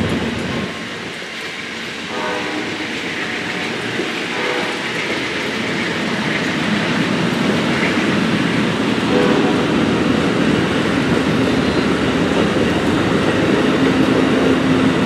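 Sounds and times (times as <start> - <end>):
train cars rolling on rails: 0.0 - 15.0
wheels clacking over rail joints: 2.7 - 15.0.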